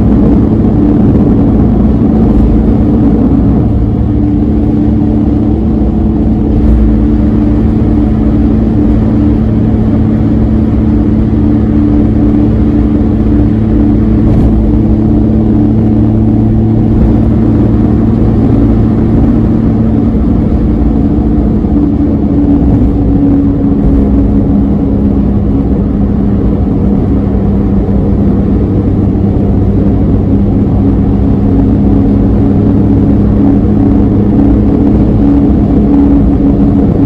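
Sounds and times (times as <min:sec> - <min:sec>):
tyre and road noise: 0:00.0 - 0:37.0
van engine droning: 0:00.0 - 0:37.0.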